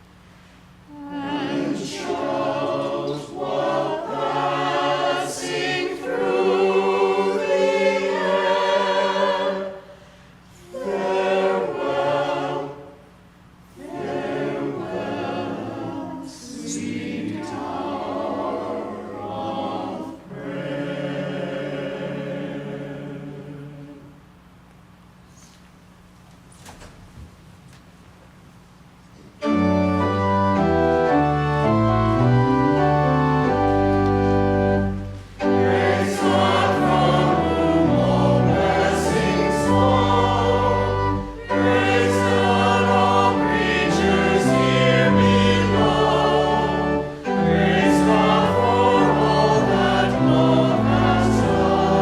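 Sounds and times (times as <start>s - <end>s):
church choir singing: 0.9s - 24.2s, 29.4s - 52.0s.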